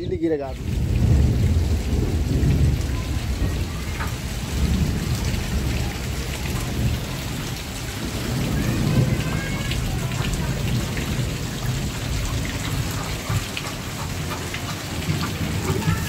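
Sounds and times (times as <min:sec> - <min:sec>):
heavy rain splashing on concrete: 0:00.0 - 0:16.0.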